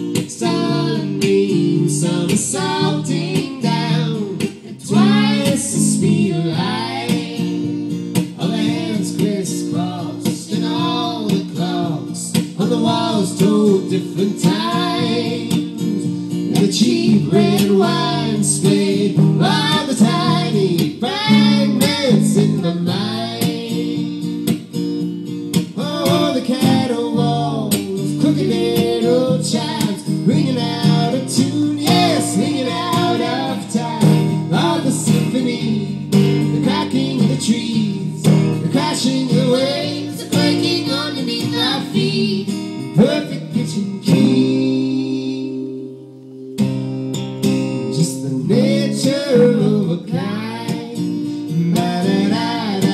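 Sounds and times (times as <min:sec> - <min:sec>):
person singing: 0:00.0 - 0:07.6, 0:08.3 - 0:24.2, 0:25.7 - 0:46.5, 0:47.8 - 0:52.9
acoustic guitar strumming: 0:00.0 - 0:52.9.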